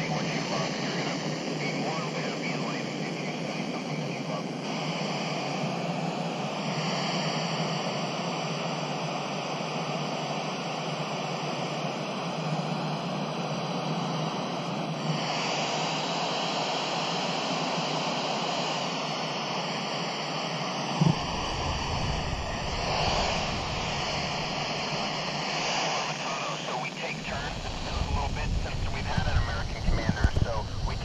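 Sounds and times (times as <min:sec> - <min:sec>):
radio static hiss: 0:00.0 - 0:08.1, 0:10.7 - 0:31.0.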